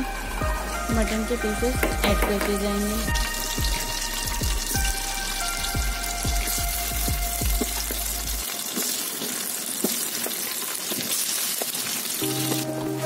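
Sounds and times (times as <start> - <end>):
meat sizzling in oil: 0.0 - 13.0
oil crackling and spitting: 0.0 - 13.0.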